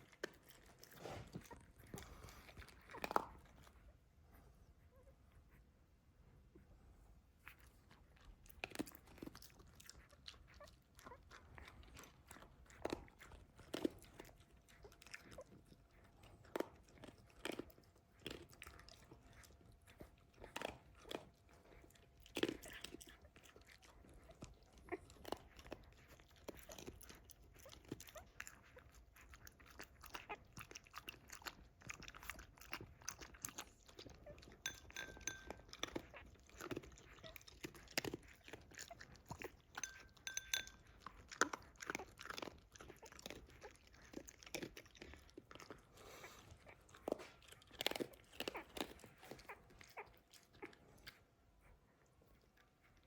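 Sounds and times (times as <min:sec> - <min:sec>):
dog crunching food: 0:00.0 - 0:03.8, 0:08.2 - 0:51.2.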